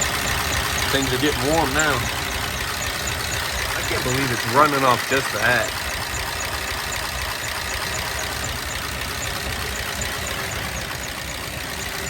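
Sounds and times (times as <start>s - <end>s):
faint high ticking: 0.0s - 12.0s
truck engine idling: 0.0s - 12.0s.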